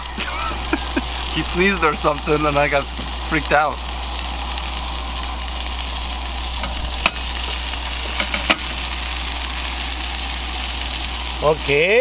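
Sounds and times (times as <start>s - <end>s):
patties sizzling in a skillet: 0.0s - 12.0s.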